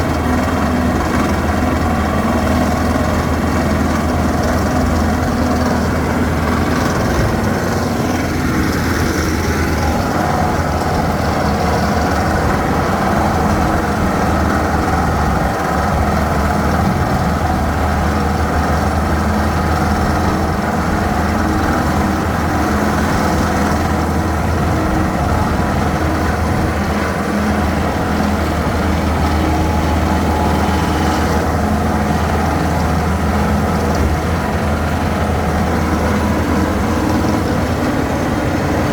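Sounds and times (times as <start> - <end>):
heavy machinery engine humming: 0.0 - 38.9.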